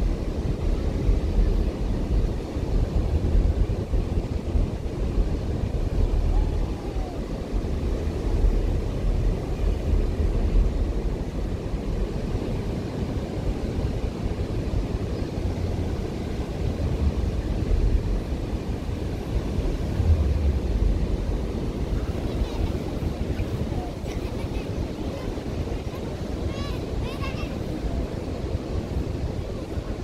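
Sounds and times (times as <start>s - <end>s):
ocean surf on a beach: 0.0s - 30.0s
wind buffeting microphone: 0.0s - 30.0s.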